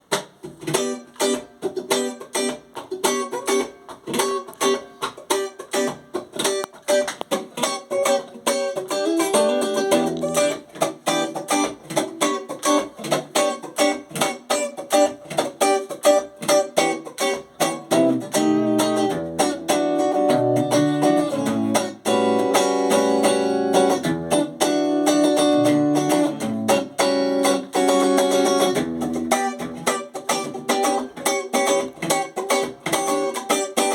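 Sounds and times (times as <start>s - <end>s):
electric guitar playing: 0.5s - 33.9s.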